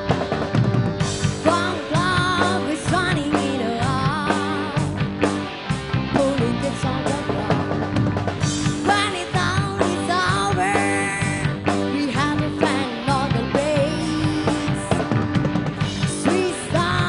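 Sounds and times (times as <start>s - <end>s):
woman singing lead: 0.0s - 5.3s, 6.0s - 17.0s
drum kit: 0.0s - 17.0s
electric bass: 0.0s - 17.0s.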